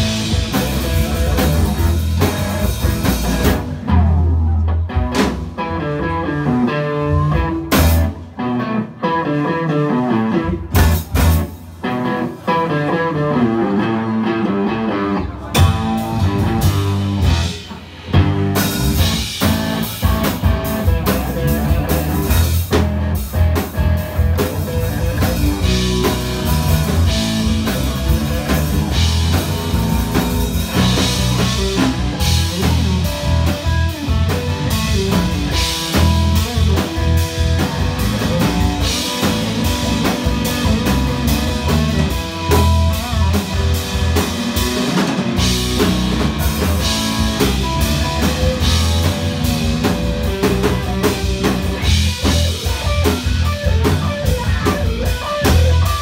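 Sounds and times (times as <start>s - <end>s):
drum kit and cymbals: 0.0s - 8.4s, 10.2s - 12.7s, 15.2s - 56.0s
bass guitar: 0.0s - 56.0s
electric guitar: 0.0s - 56.0s.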